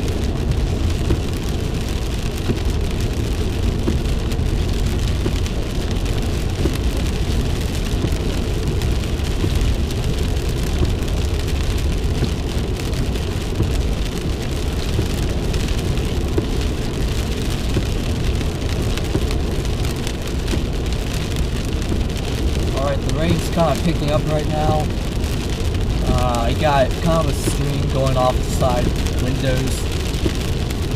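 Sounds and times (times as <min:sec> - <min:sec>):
rain pattering on car: 0:00.0 - 0:30.9
road and engine rumble: 0:00.0 - 0:30.9.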